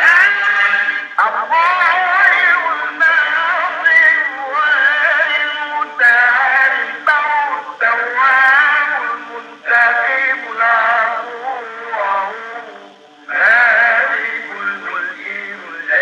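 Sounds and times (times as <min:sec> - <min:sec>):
steady held drone: 0:00.0 - 0:16.0.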